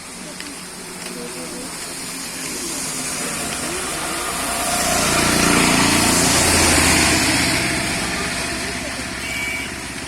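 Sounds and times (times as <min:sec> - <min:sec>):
rain hiss: 0:00.0 - 0:10.0
small vehicle engine running: 0:00.3 - 0:10.0.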